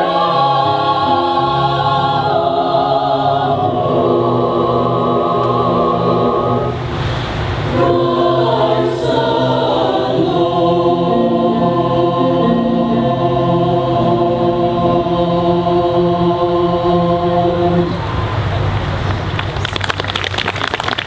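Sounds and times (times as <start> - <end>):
mixed choir singing: 0.0 - 18.5.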